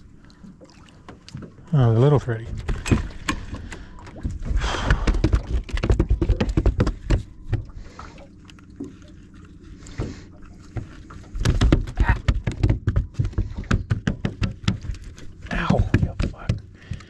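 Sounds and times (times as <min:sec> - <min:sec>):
knocks and clatter in boat: 0:00.5 - 0:09.0, 0:09.9 - 0:17.0.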